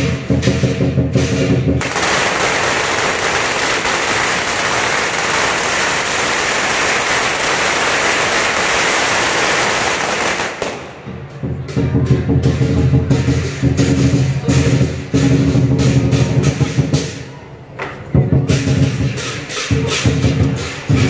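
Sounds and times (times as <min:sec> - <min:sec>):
firecrackers crackling: 0:00.0 - 0:17.3, 0:18.5 - 0:21.0.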